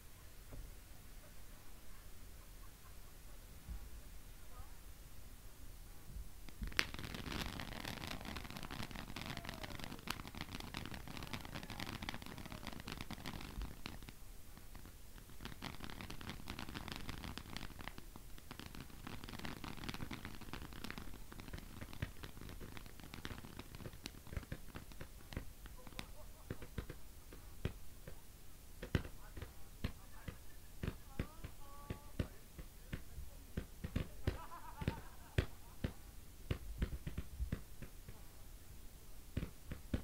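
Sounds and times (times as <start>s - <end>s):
firework crackling and hissing: 0.0s - 40.0s
sharp firework crack: 6.4s - 38.3s, 39.3s - 40.0s.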